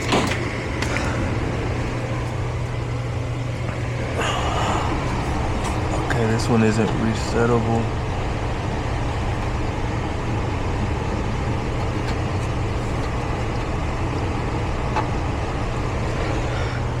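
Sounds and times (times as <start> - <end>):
low mechanical hum: 0.0 - 17.0
rushing background noise: 0.0 - 17.0.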